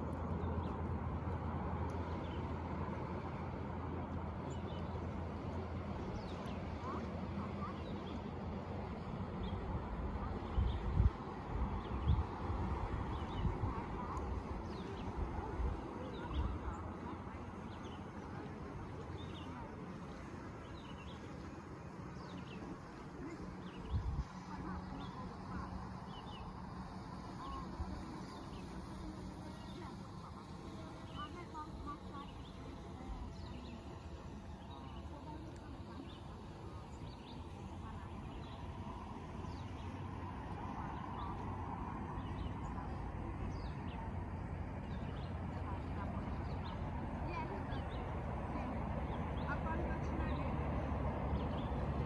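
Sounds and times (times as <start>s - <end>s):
low background rumble: 0.0s - 52.0s.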